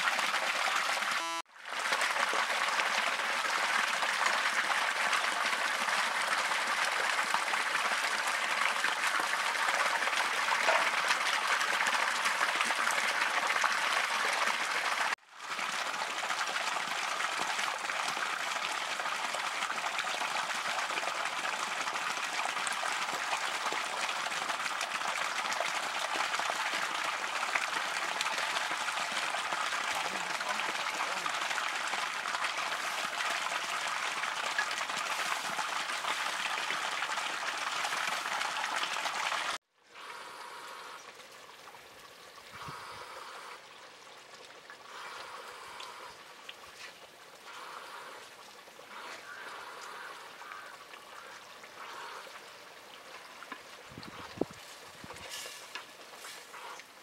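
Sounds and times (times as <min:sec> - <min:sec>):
shallow water rushing: 0:00.0 - 0:39.6, 0:40.2 - 0:57.0.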